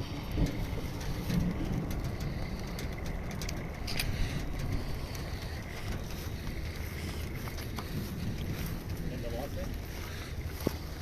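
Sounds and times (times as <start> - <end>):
raindrops ticking: 0.0 - 11.0
wind buffeting microphone: 0.0 - 11.0.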